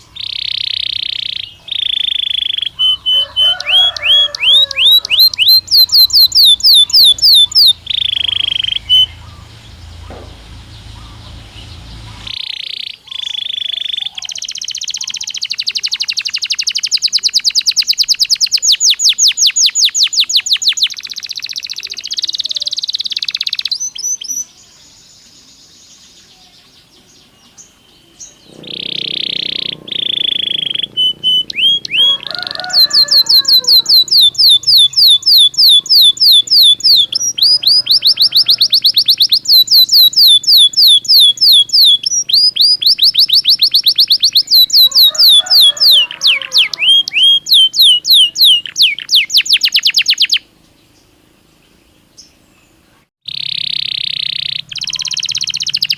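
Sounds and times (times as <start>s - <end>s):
canary singing trills: 0.0s - 51.2s, 51.8s - 55.9s.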